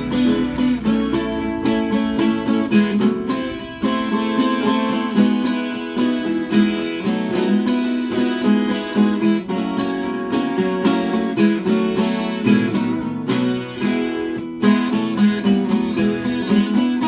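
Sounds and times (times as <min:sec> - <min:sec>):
folk guitar strummed and picked: 0:00.0 - 0:17.0.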